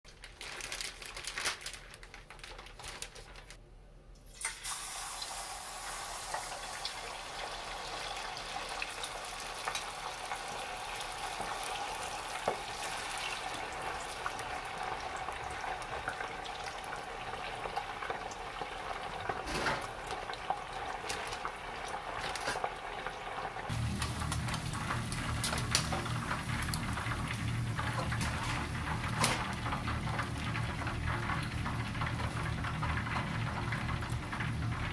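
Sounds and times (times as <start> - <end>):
deep-frying sizzle: 4.3 - 34.9.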